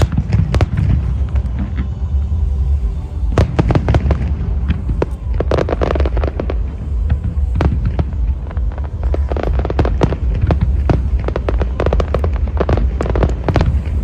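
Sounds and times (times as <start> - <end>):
firework cracks and crackles: 0.0 - 2.6, 3.2 - 14.0
deep rumble of firework bursts: 0.0 - 14.0.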